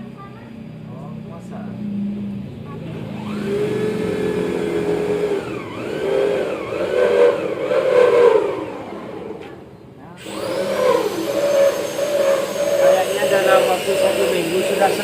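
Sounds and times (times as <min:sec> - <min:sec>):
motor revving up and down: 0:01.3 - 0:15.0.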